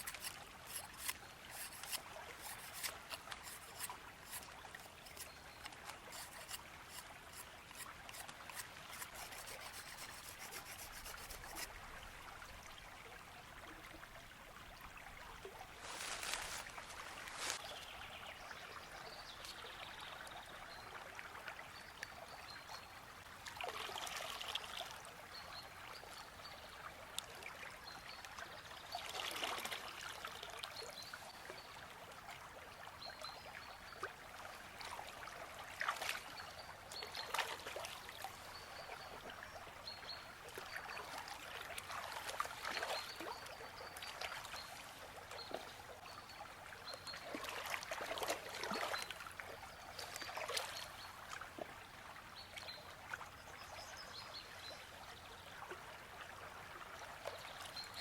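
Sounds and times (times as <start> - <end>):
river water trickling and splashing: 0.0 - 58.0.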